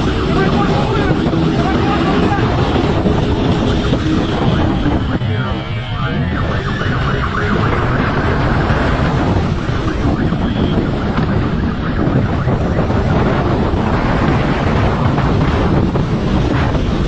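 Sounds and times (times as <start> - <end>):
motorcycle engine and road rumble: 0.0 - 17.0
wind on microphone: 0.0 - 17.0.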